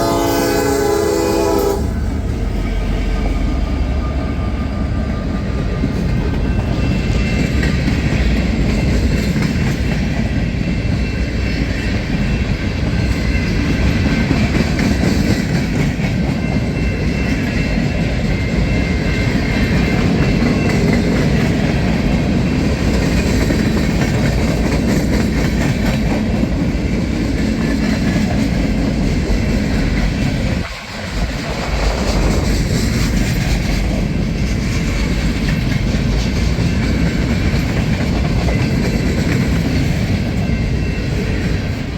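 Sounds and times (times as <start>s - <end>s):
train rumbling on track: 0.0s - 41.9s.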